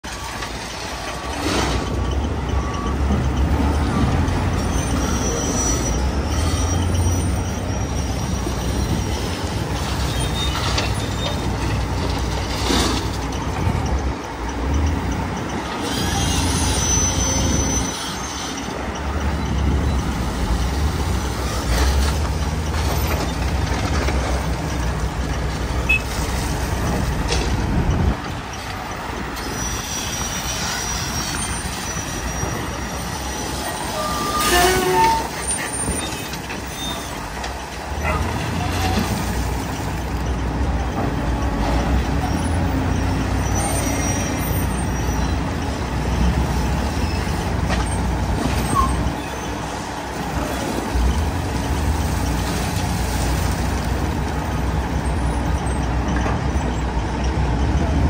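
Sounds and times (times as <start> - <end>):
diesel engine rumble: 0.0 - 58.0.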